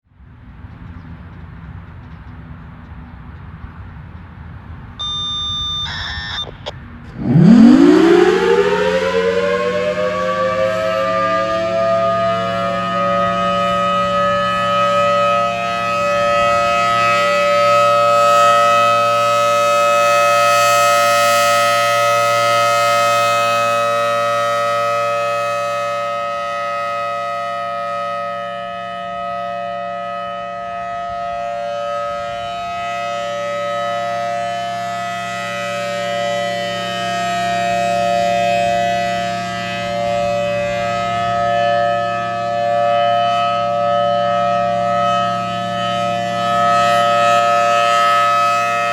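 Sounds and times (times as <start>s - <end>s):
rotating warning siren: 5.0s - 48.9s.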